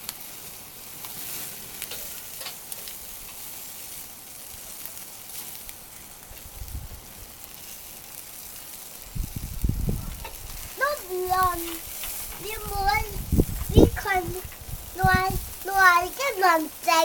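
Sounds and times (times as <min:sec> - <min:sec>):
sizzling on a barbecue grill: 0:00.0 - 0:17.0
small crackles: 0:00.0 - 0:17.0.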